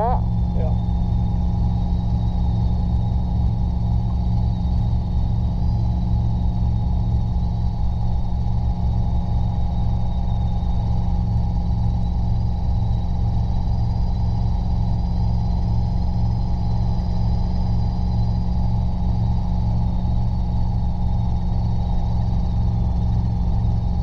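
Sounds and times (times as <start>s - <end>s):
faint high whine: 0.0s - 24.0s
helicopter drone: 0.0s - 24.0s.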